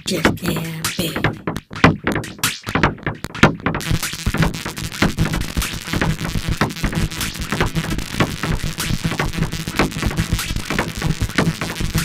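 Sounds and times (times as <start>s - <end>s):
drum machine beat: 0.0s - 12.0s
electronic music with synthesizer: 0.0s - 12.0s.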